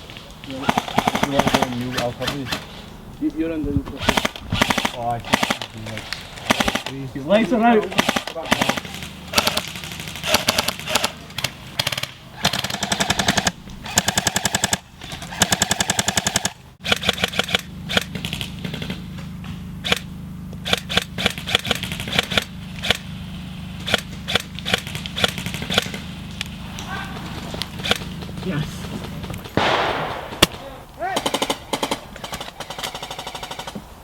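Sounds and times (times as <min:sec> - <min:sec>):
airsoft guns firing bursts: 0:00.5 - 0:02.7, 0:04.0 - 0:19.1, 0:19.8 - 0:23.1, 0:23.8 - 0:26.1, 0:27.2 - 0:33.8.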